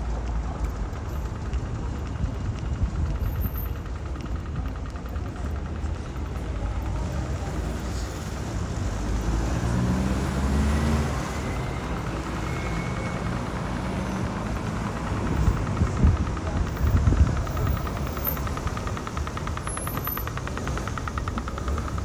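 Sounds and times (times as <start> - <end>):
low rumble of city street: 0.0 - 22.0.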